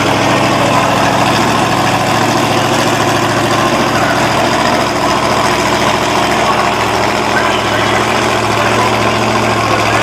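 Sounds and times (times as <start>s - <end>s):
truck engines idling: 0.0s - 10.0s.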